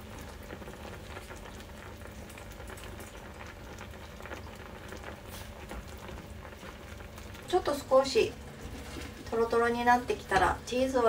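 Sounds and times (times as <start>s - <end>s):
sauce bubbling in a frying pan: 0.0s - 11.0s.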